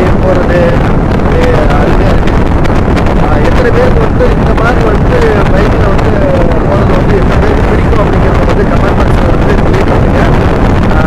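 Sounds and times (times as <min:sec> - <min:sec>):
motorcycle running rumble: 0:00.0 - 0:11.0
wind buffeting microphone: 0:00.0 - 0:11.0.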